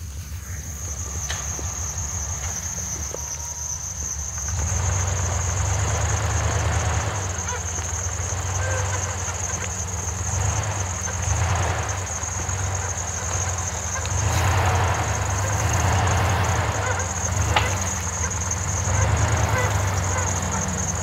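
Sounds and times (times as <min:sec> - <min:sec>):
engines rumbling at low speed: 0:00.0 - 0:21.0
steady high whine: 0:00.0 - 0:21.0.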